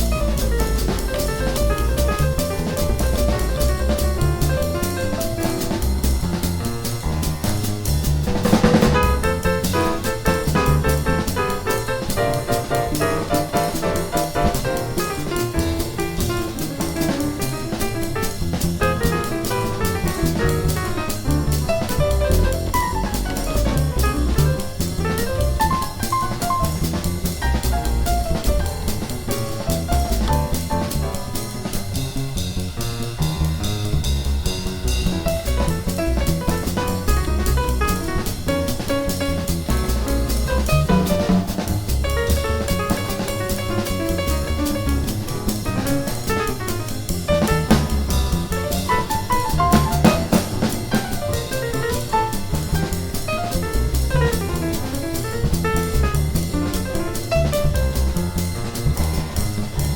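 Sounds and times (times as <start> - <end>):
acoustic piano: 0.0 - 59.9
double bass: 0.0 - 59.9.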